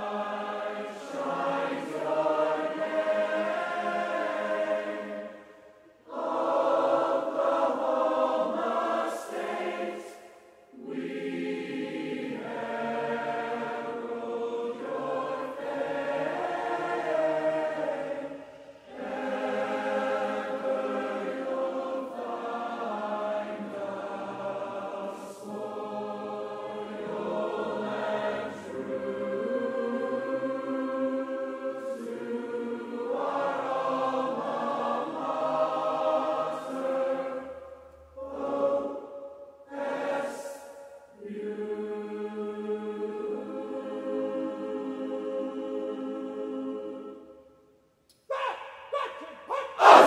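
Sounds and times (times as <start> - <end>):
song with choir-like singing: 0.0 - 50.0.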